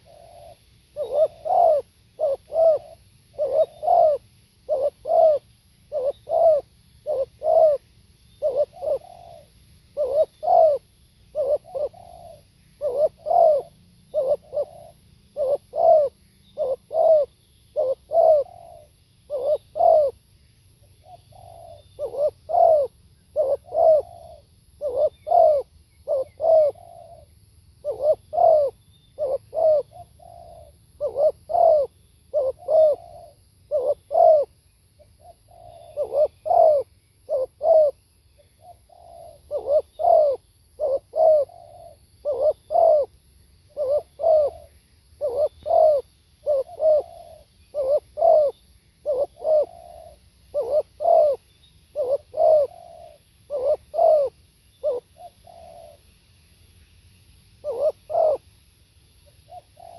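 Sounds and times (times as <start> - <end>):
dove cooing: 0.0 - 56.1, 57.6 - 58.5, 59.2 - 59.9.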